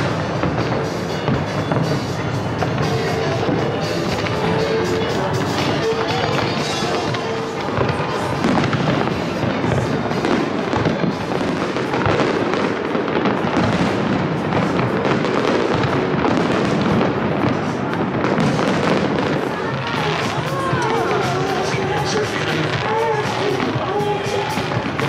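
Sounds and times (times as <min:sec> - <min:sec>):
fireworks crackling and popping: 0:00.0 - 0:25.0
music playing: 0:00.0 - 0:25.0.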